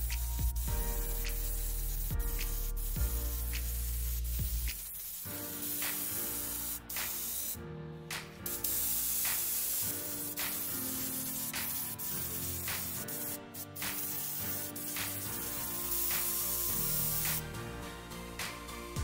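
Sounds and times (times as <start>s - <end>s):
background music with beat: 0.0s - 7.5s, 8.1s - 19.0s
airbrush spraying hiss: 0.0s - 7.6s, 8.2s - 17.6s.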